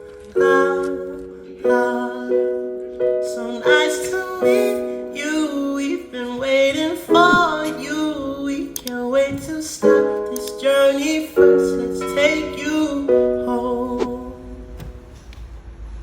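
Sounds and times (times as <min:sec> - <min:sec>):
person singing: 0:00.0 - 0:15.1
held keyboard chords: 0:00.0 - 0:15.4.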